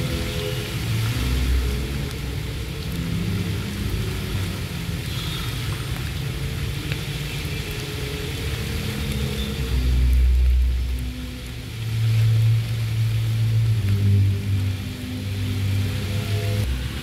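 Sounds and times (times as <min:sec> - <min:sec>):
fountain water and rain patter: 0:00.0 - 0:17.0.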